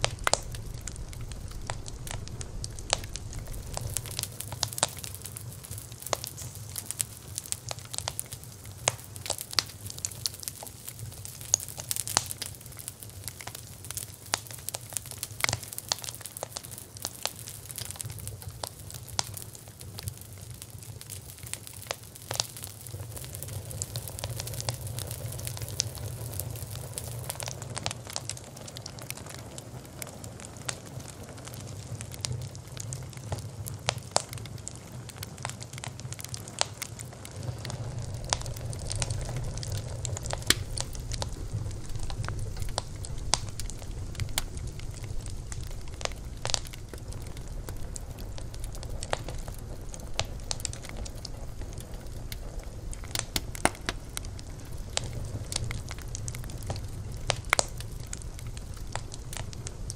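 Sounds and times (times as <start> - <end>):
low rumble of flames: 0.0 - 59.9
wood crackling and popping: 0.0 - 59.9.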